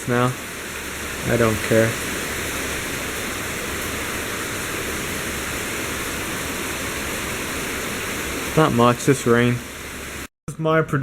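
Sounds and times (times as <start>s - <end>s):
heavy rain falling: 0.0s - 10.3s.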